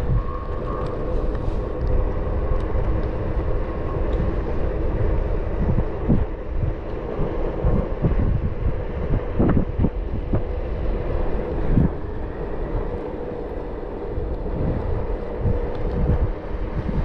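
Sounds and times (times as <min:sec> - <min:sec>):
faint steady hum: 0:00.0 - 0:17.0
wind buffeting microphone: 0:00.0 - 0:17.0.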